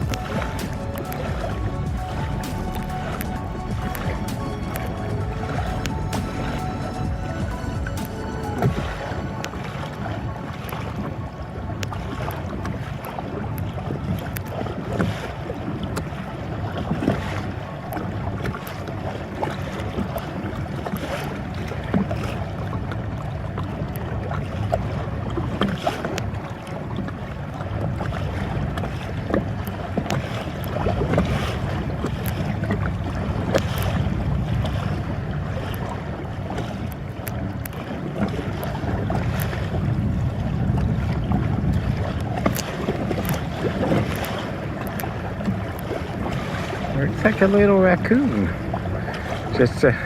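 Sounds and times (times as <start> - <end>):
paddle splashing water: 0.0 - 50.0
water lapping against hull: 0.0 - 50.0
wind on microphone: 0.0 - 50.0.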